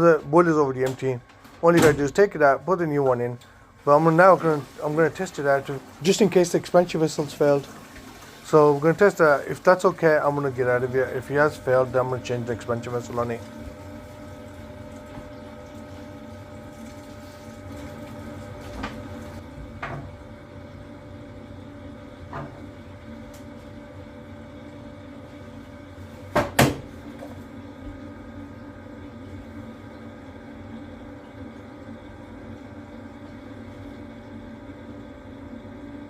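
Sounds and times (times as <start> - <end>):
boiler hum: 0.0 - 36.0.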